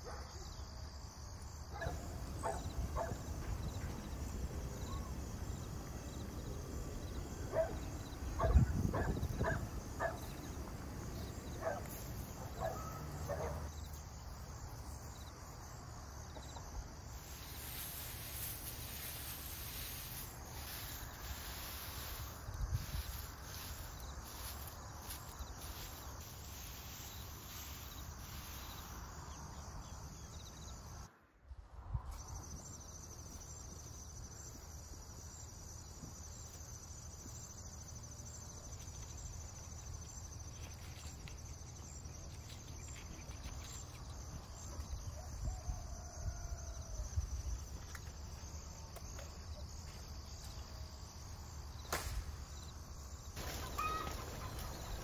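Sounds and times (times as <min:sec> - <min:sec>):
insects chirring: 0:00.0 - 0:31.1, 0:31.8 - 0:55.0.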